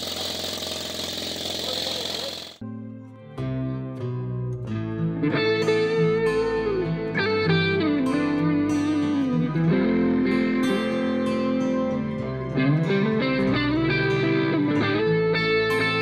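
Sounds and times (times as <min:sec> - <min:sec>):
instrumental guitar music: 0:02.6 - 0:16.0.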